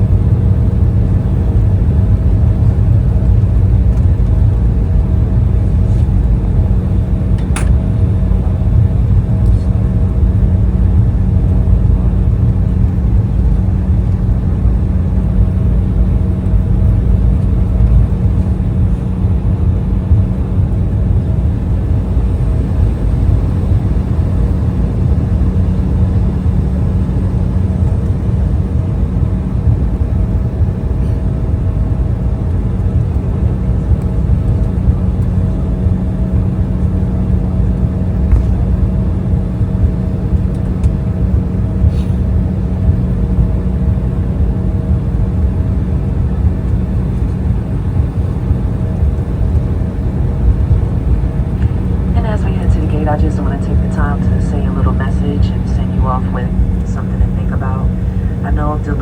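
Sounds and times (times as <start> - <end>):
aircraft cabin drone: 0.0 - 59.0.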